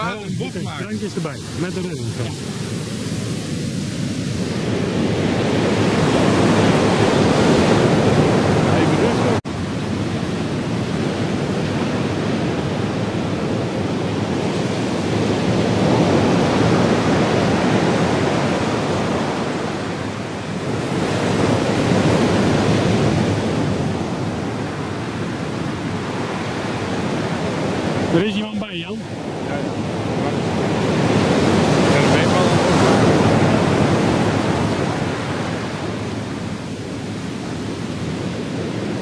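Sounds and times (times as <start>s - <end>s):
ocean surf breaking: 0.0s - 39.0s.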